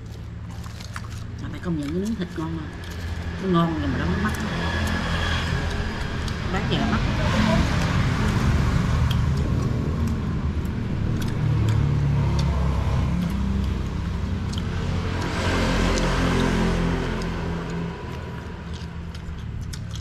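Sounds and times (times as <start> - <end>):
motor vehicles passing close by: 0.0 - 20.0.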